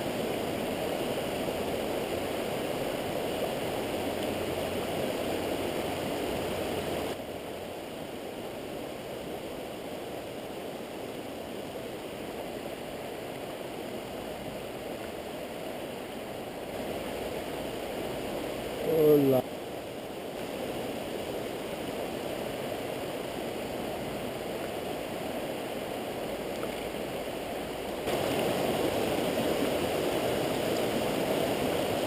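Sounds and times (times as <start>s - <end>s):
stream rushing over stones: 0.0s - 32.0s.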